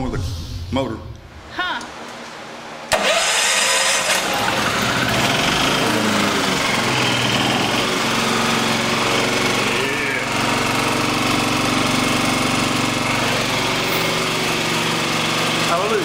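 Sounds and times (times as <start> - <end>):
generator engine running: 2.9 - 16.0.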